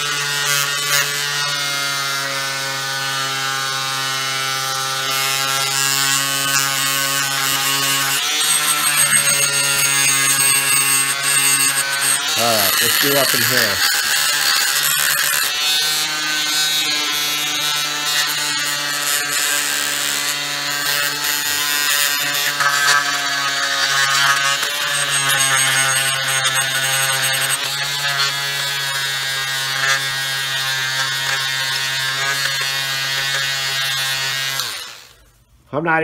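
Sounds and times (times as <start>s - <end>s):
oscillating multi-tool buzzing: 0.0s - 35.4s.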